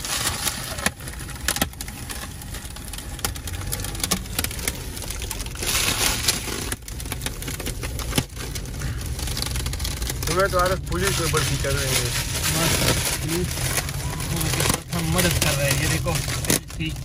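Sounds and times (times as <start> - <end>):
low rumble of car cabin: 0.0 - 17.0
plastic film crinkling: 0.0 - 17.0.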